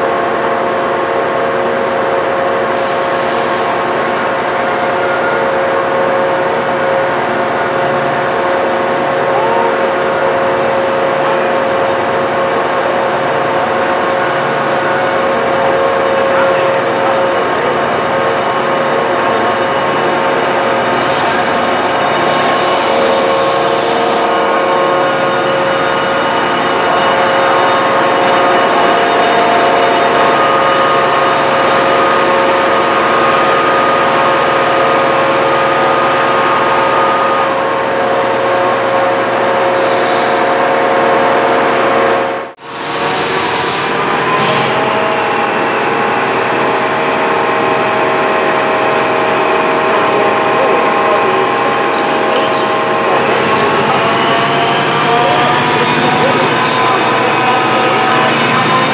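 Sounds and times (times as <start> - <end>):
diesel locomotive engine humming: 0.0 - 58.9.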